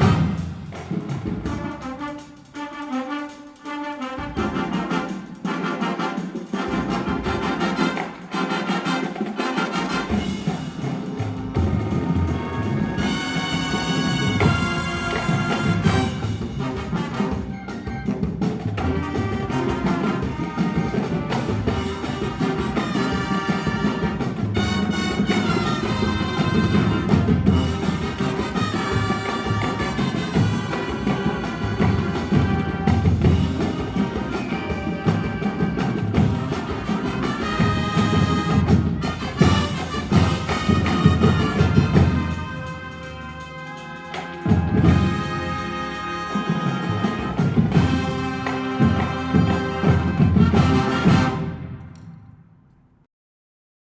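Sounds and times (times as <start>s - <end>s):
brass chords: 0.0s - 52.4s
drumline percussion: 0.0s - 52.4s.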